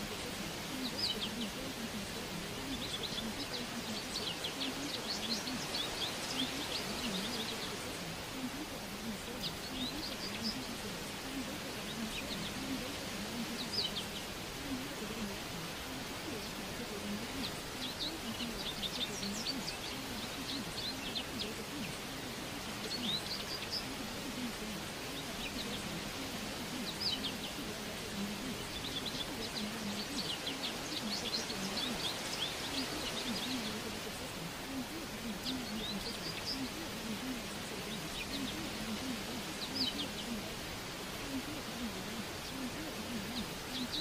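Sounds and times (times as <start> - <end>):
background hiss: 0.0 - 44.0
small birds chirping: 0.0 - 44.0.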